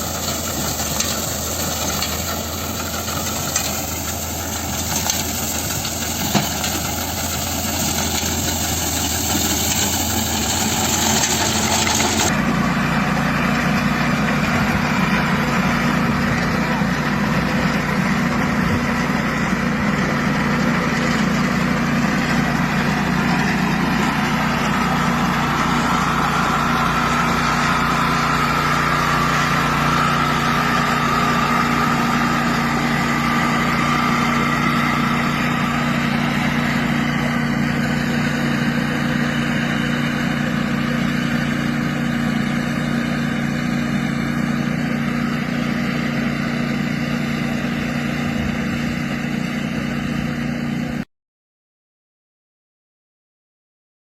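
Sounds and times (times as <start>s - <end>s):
reaper engine running: 0.0s - 51.0s.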